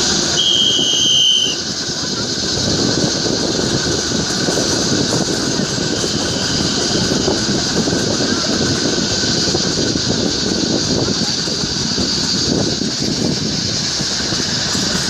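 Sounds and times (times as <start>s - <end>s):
small train running on track: 0.0s - 15.0s.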